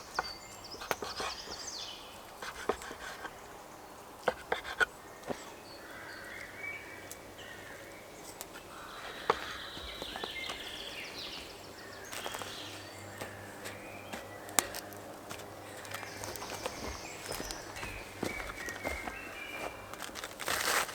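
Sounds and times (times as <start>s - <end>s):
faint bird calls: 0.0s - 20.3s.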